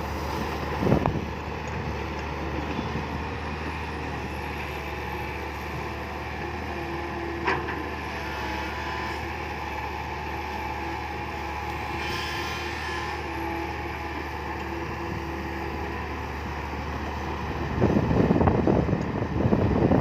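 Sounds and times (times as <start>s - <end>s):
excavator running: 0.0s - 20.0s.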